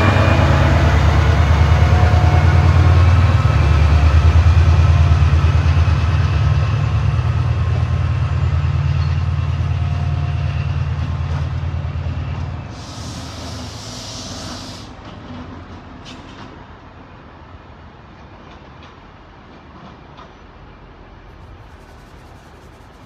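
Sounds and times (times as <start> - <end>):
train engine rumble: 0.0 - 23.0.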